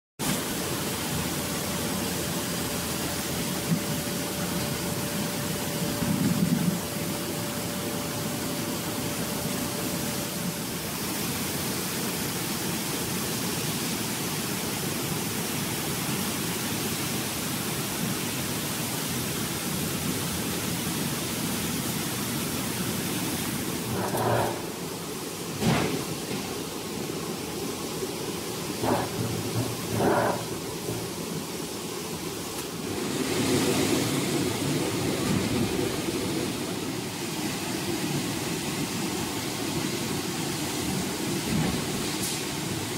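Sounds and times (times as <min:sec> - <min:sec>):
rushing bubbling water: 0:00.3 - 0:42.9.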